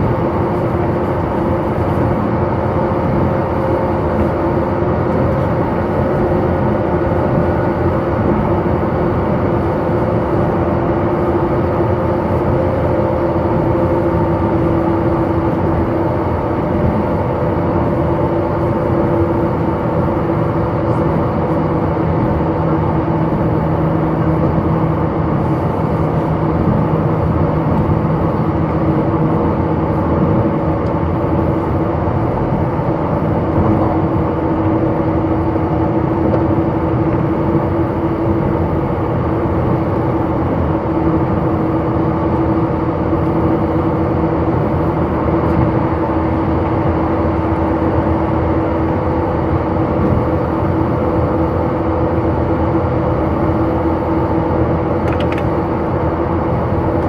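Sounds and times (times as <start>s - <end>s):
steady droning tone: 0.0s - 57.0s
train wheels rumbling on rail: 0.0s - 57.0s.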